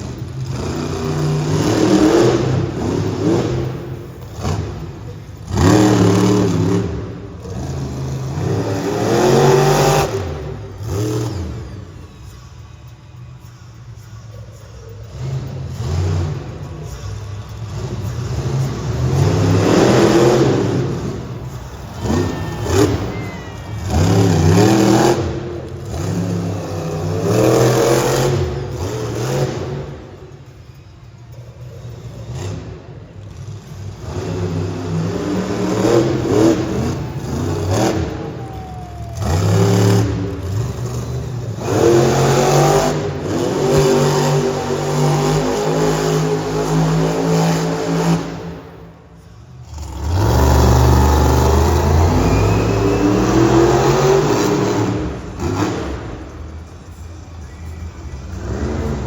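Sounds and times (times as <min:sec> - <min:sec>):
monster truck engines revving: 0:00.0 - 0:59.0.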